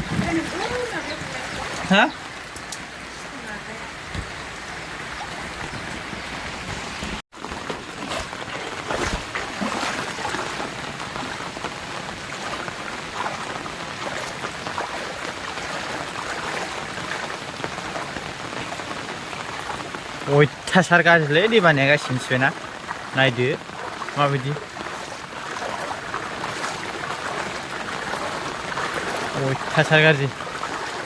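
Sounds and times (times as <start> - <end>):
floodwater rushing: 0.0 - 31.0
steady rain falling: 0.0 - 31.0.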